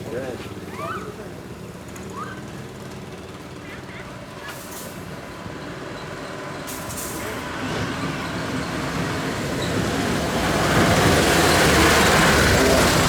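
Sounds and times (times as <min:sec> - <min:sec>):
road noise: 0:00.0 - 0:13.0
vehicle engine: 0:00.0 - 0:13.0.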